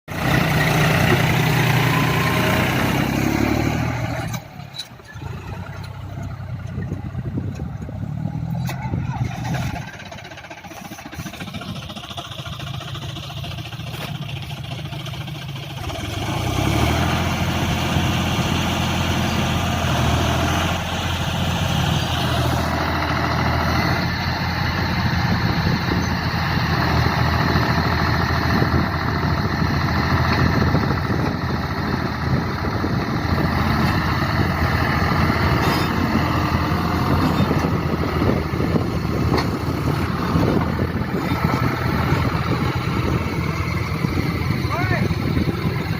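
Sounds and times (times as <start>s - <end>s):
tractor engine running hard: 0.1s - 45.9s.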